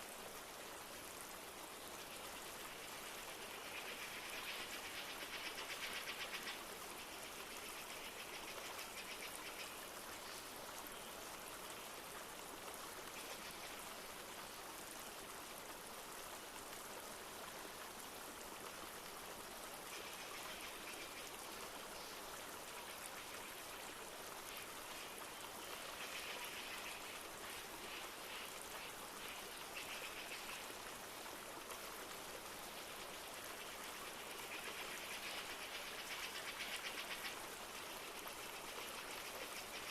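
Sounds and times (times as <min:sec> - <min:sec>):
light rain: 0:00.0 - 0:39.9
river flowing over stones: 0:00.0 - 0:39.9.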